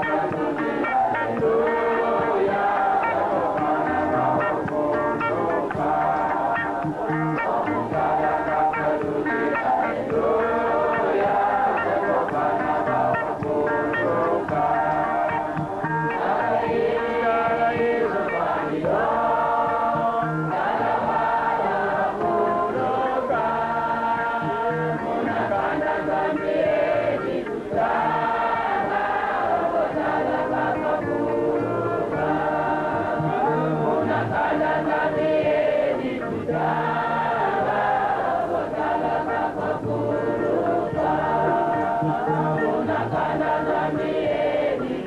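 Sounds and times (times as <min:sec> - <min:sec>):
choir singing a hymn: 0:00.0 - 0:45.0.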